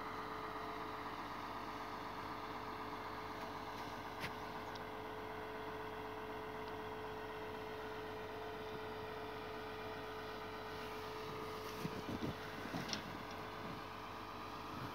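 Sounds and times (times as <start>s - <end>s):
harvester engine humming: 0.0s - 14.9s.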